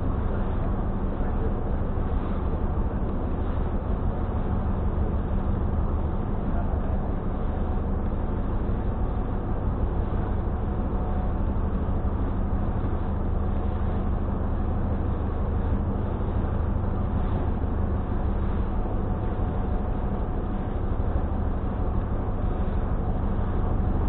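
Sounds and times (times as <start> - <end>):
ferry engine drone: 0.0 - 24.0.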